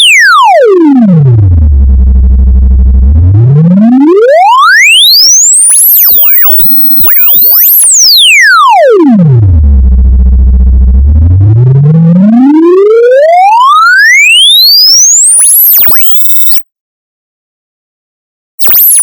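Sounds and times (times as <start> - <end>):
electronic sine tone sweep: 0.0 - 16.6, 18.6 - 19.0.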